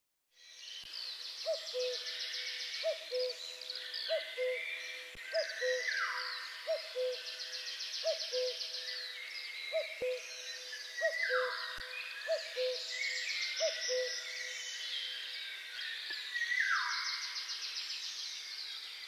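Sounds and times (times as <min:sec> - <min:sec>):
songbirds trilling and chirping: 0:00.4 - 0:19.0.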